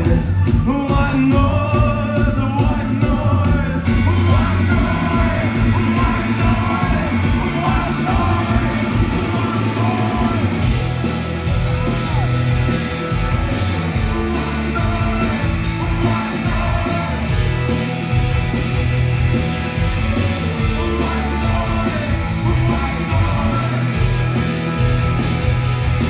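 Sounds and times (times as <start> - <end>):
crowd shouting and singing along: 0.0 - 26.0
live rock band playing: 0.0 - 26.0
steady drumbeat: 0.0 - 26.0.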